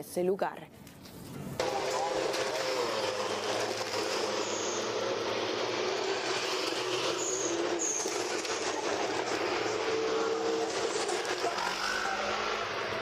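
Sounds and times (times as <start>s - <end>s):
motorcycle engines passing: 1.1s - 13.0s.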